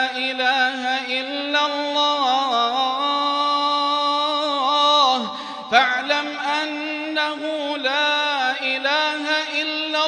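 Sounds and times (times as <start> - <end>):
man chanting melodically: 0.0 - 10.0.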